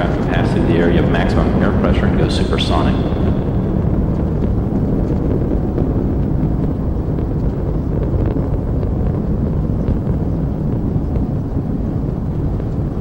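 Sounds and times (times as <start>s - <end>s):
rocket exhaust roaring: 0.0s - 13.0s.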